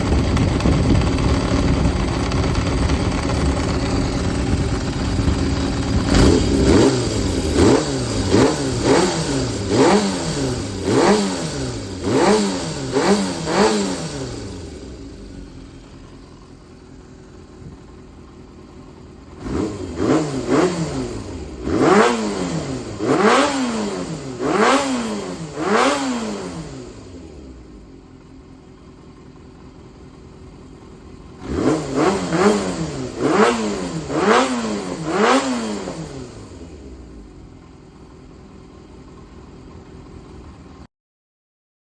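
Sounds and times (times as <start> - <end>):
motorcycle engine idling: 0.0 - 23.0, 24.0 - 40.9
motorcycle engine revving: 0.0 - 40.8.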